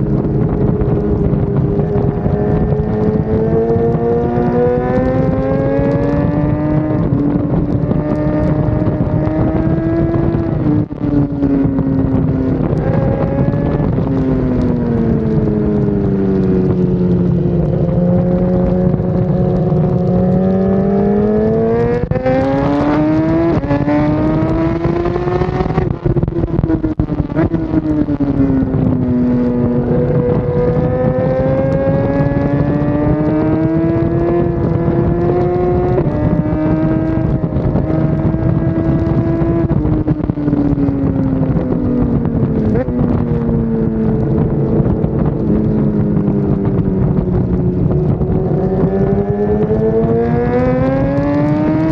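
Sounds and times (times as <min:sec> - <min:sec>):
motorcycle engine revving: 0:00.0 - 0:51.9
wind rush: 0:00.0 - 0:51.9.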